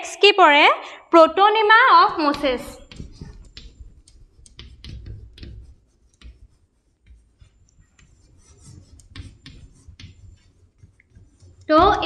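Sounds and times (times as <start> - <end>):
pen scratching on paper: 2.2 - 12.0.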